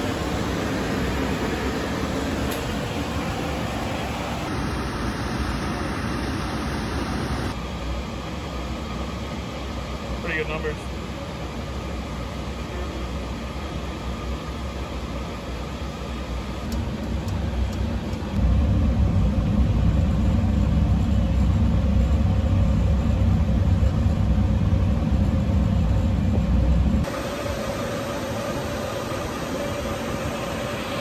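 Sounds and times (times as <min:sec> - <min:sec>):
oil burner flame rumbling: 0:00.0 - 0:31.0.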